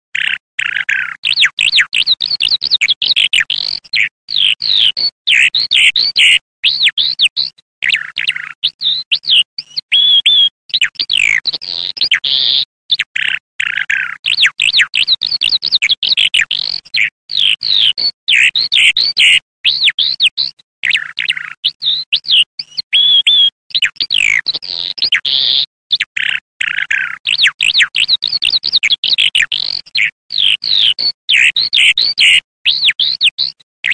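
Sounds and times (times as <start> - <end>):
skylark twittering song: 0.1 - 33.9.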